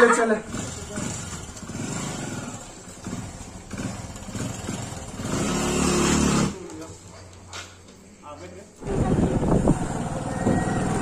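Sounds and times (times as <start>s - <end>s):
motorcycle engine revving: 0.0s - 6.8s, 8.8s - 11.0s.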